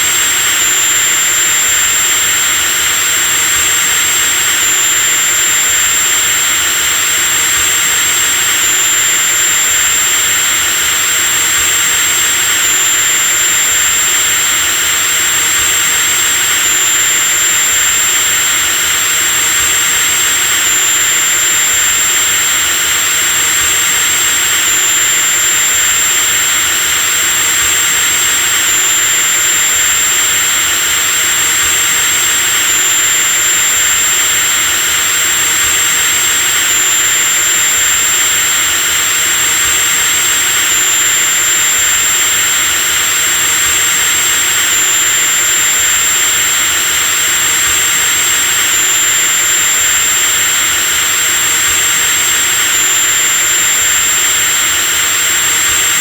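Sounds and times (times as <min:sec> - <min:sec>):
electric power drill running: 0:00.0 - 0:56.0.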